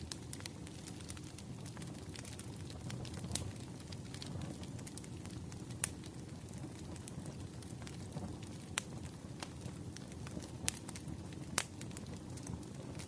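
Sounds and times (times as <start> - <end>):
sharp pops from fire: 0.0 - 13.0
wood fire crackling: 0.0 - 13.0.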